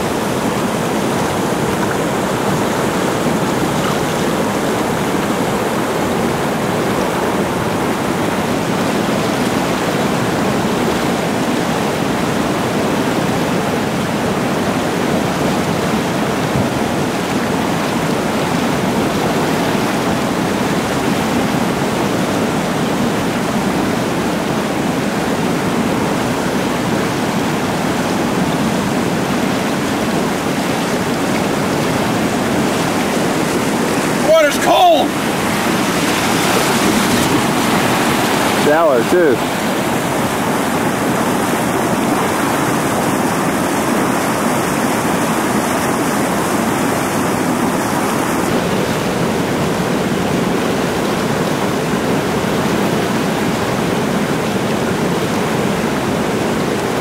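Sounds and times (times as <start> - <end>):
whitewater rapids rushing: 0.0 - 57.0.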